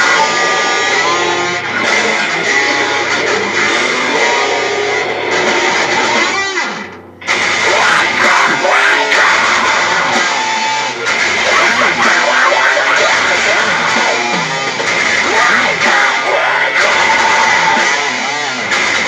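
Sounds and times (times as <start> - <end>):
loud electric guitar riffing: 0.0 - 19.0.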